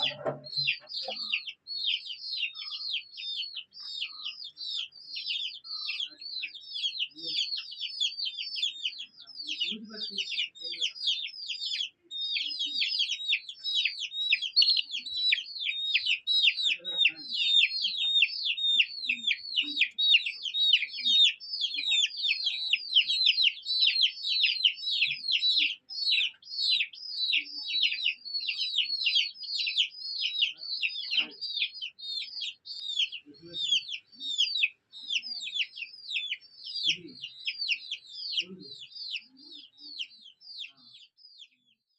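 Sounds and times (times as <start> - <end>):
chicks peeping: 0.0 - 41.9.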